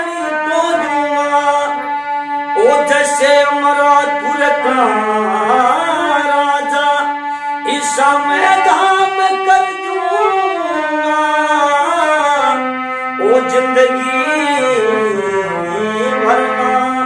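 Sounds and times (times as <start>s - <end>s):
harmonium sustained notes: 0.0s - 17.0s
man singing: 0.0s - 17.0s.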